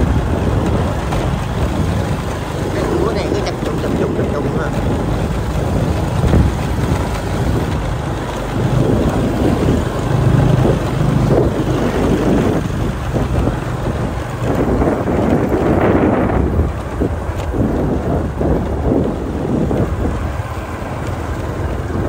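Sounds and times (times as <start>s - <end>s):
vehicle engine running: 0.0s - 22.0s
wind rumbling on microphone: 0.0s - 22.0s.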